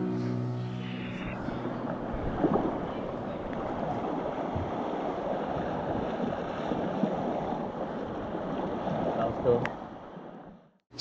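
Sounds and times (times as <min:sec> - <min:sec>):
ocean waves rushing: 0:00.0 - 0:10.6
wind buffeting microphone: 0:01.3 - 0:10.4.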